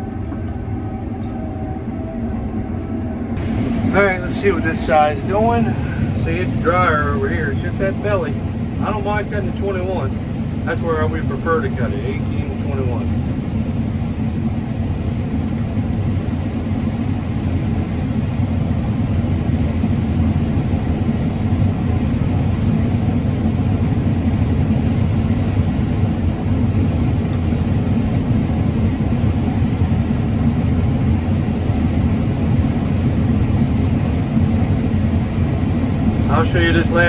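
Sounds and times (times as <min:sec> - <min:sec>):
combine harvester droning: 0:03.4 - 0:37.0.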